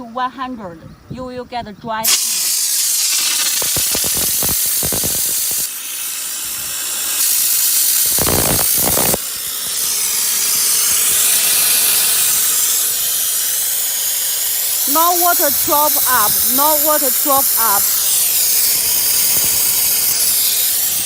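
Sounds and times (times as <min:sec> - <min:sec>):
steam jet hissing: 0:02.0 - 0:21.0
crackling: 0:02.1 - 0:05.7, 0:07.2 - 0:21.0.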